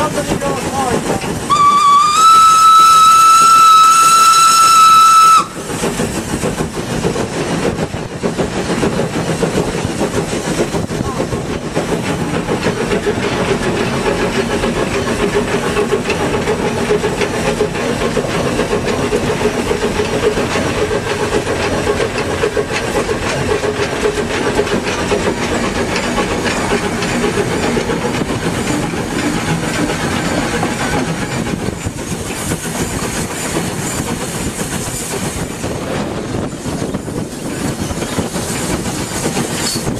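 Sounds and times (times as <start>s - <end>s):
steam locomotive running: 0.0s - 39.9s.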